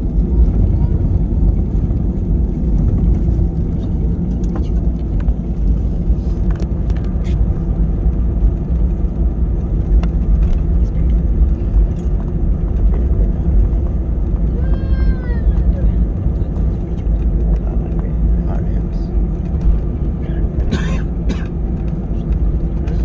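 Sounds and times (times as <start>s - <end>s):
airplane engines roaring: 0.0s - 23.0s.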